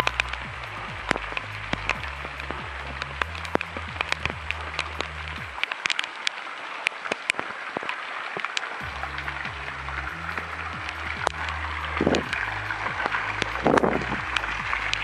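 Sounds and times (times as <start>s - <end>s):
drops splashing and dripping: 0.0s - 15.0s
rain hiss: 0.0s - 15.0s.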